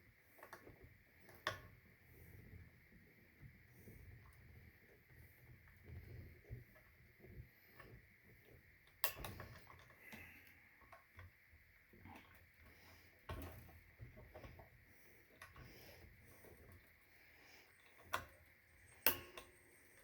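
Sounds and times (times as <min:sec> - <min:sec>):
small clicks and ticks: 0:00.1 - 0:20.0.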